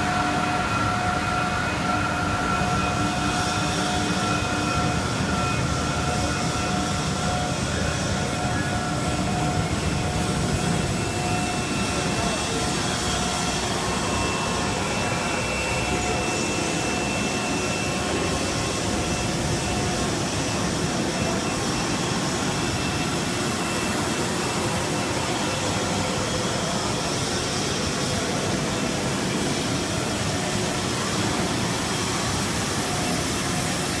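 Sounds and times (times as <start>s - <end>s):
faint steady whines: 0.0s - 34.0s
production line machinery noise: 0.0s - 34.0s.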